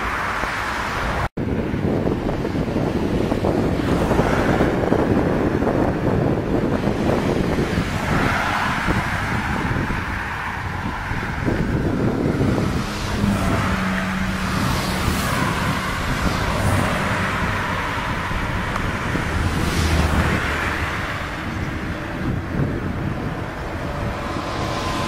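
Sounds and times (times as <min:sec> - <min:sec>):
engine hum: 0:00.0 - 0:25.0
road traffic rumble: 0:00.0 - 0:25.0
vehicle passing: 0:02.8 - 0:25.0.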